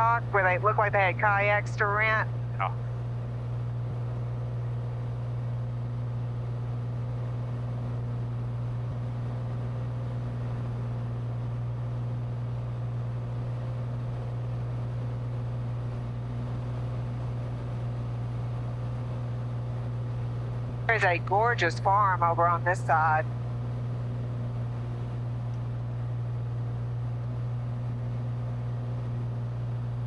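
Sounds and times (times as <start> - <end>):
airplane engine droning: 0.0 - 30.0.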